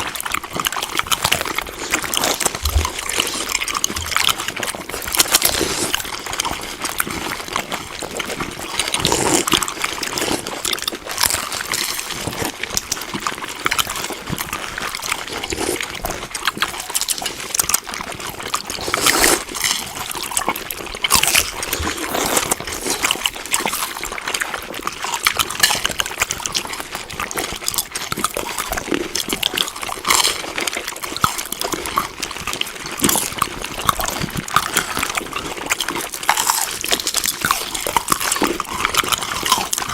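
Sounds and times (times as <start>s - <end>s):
chewing food crunches: 0.0s - 39.9s.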